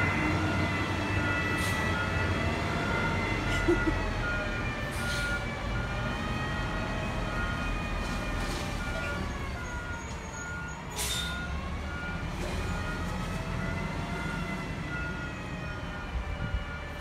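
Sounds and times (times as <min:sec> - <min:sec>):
truck backup alarm beeping: 0:00.0 - 0:17.0.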